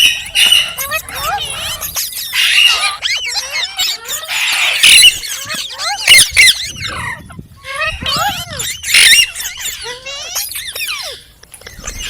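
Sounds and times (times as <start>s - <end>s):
parrot chirping and squawking: 0.0s - 12.0s
parrot screeching: 0.0s - 12.0s.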